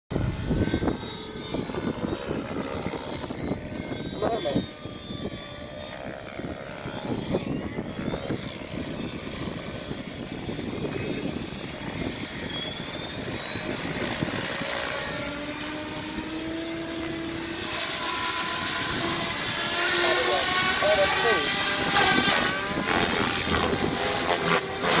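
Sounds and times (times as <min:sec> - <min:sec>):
helicopter rotor: 0:00.1 - 0:25.0
rc helicopter motor whine: 0:00.1 - 0:25.0
wind rumbling on microphone: 0:00.1 - 0:25.0.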